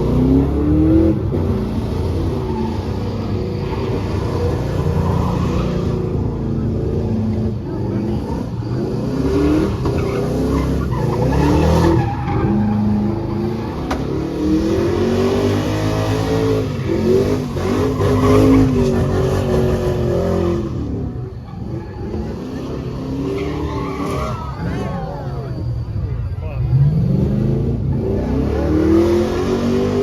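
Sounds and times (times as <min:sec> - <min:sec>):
tires squealing on pavement: 0:00.0 - 0:30.0
truck engine revving: 0:00.0 - 0:30.0.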